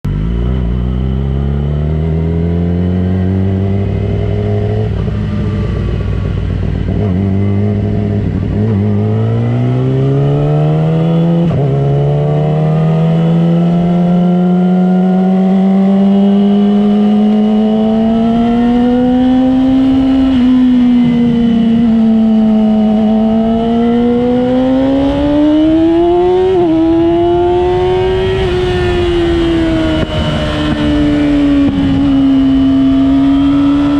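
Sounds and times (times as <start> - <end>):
vehicle engine revving: 0.1 - 33.9.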